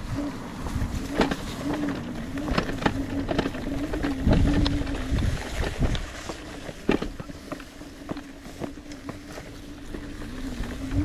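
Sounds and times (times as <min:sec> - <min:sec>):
bike rattling and knocking: 0:00.0 - 0:11.0
electric motor whine: 0:00.0 - 0:11.0
wind and tyres rumbling: 0:00.0 - 0:11.0.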